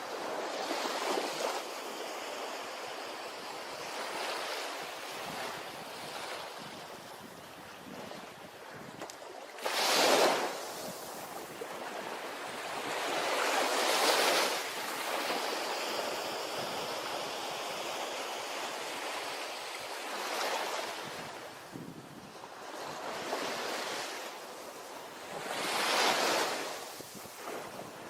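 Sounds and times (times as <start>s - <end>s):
ocean waves breaking on a beach: 0.0s - 28.0s.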